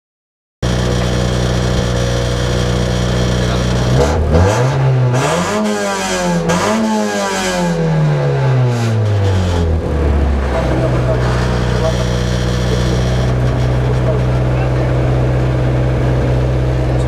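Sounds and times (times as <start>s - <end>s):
car engine idling: 0.6s - 17.0s
car engine revving: 0.6s - 17.0s.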